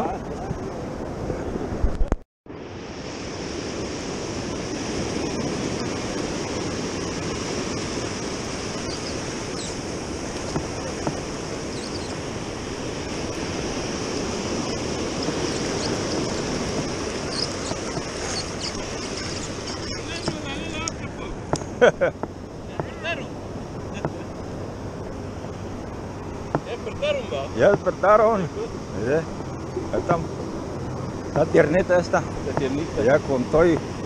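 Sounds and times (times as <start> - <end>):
ocean surf breaking: 0.0 - 34.0.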